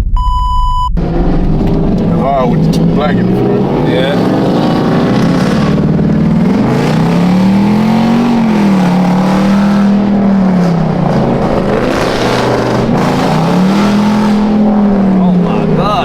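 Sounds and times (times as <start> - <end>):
car engine revving: 0.7 - 16.0.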